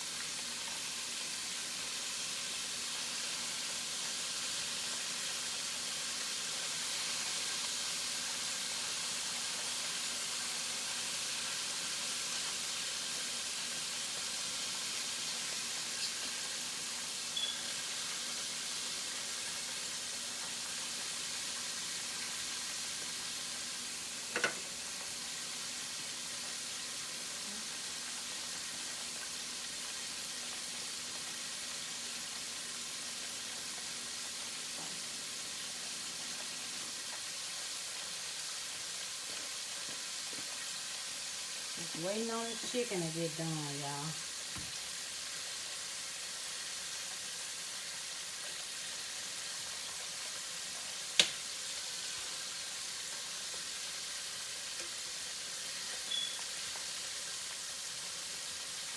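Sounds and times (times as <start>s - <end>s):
chicken frying in oil: 0.0s - 58.9s.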